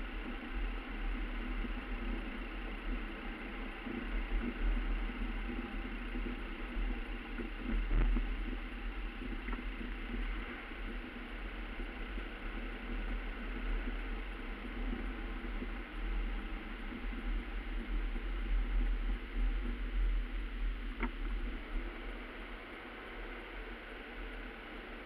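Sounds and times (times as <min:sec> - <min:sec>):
car engine and tyre hum: 0:00.0 - 0:25.0.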